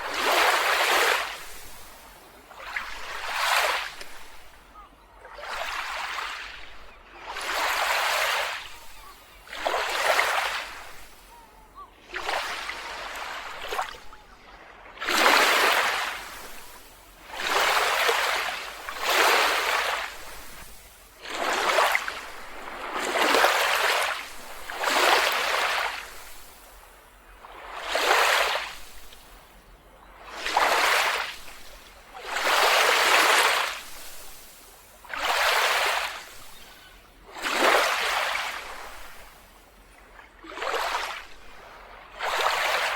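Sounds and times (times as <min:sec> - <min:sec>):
small waves washing onto beach: 0:00.0 - 0:42.9.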